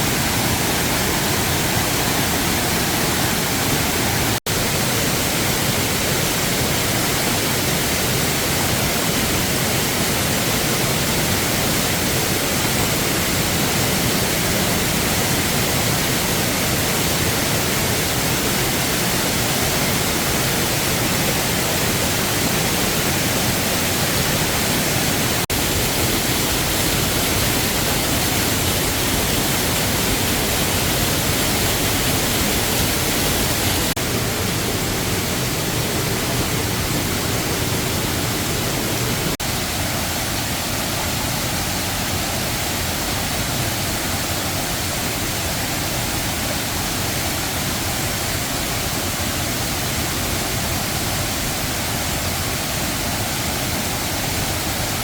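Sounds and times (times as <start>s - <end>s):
waterfall rushing water: 0.0s - 55.0s.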